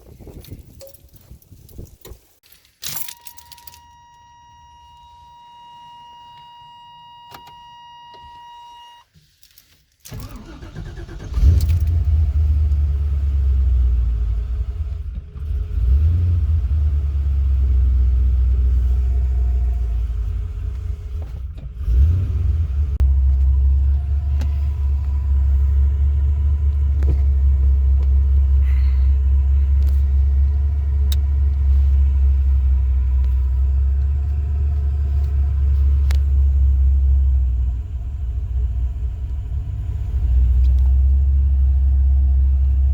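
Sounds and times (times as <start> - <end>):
car engine starting and rumbling: 0.1 - 9.0, 9.6 - 42.9.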